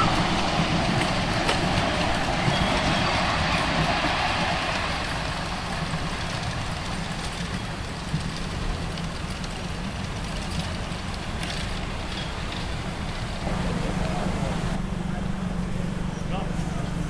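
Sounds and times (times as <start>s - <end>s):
miniature train rumbling: 0.0s - 17.0s.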